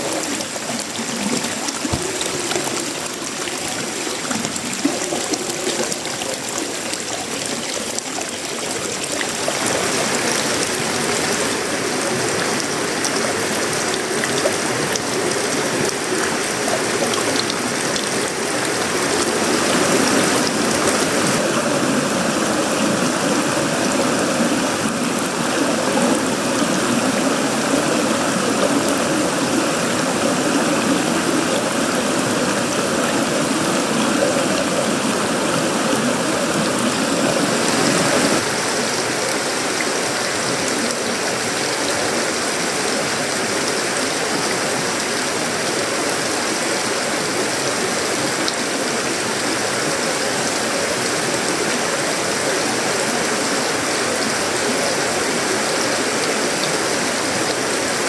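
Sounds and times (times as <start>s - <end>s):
heavy rain on metal roofing: 0.0s - 58.0s.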